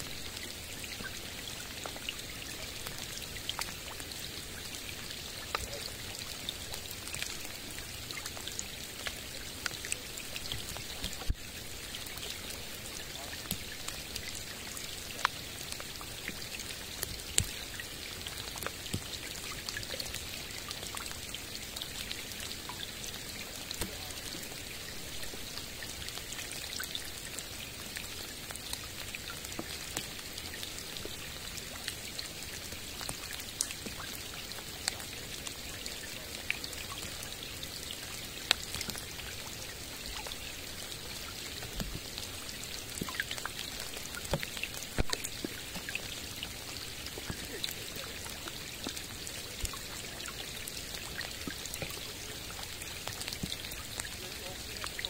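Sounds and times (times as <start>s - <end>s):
rain falling on lake and forest: 0.0s - 55.0s.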